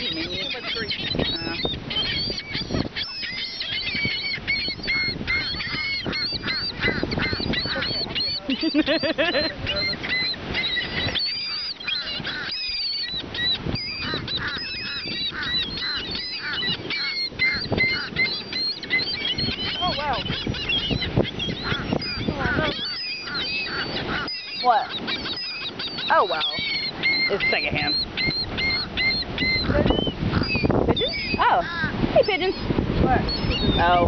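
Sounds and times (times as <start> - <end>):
seagulls calling: 0.0 - 34.0.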